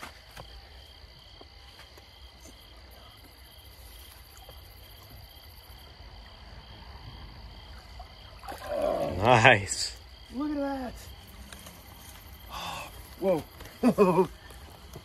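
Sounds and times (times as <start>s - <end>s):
crickets chirping: 0.0s - 15.0s
high insect drone: 0.0s - 15.0s.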